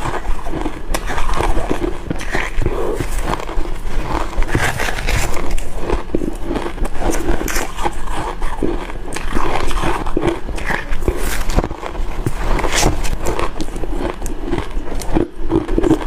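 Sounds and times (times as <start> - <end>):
biting into crushed ice: 0.0 - 16.0.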